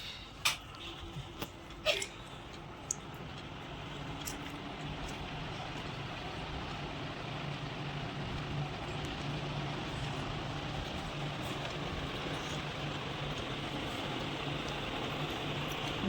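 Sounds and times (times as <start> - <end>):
road vehicle running noise: 0.0 - 16.0.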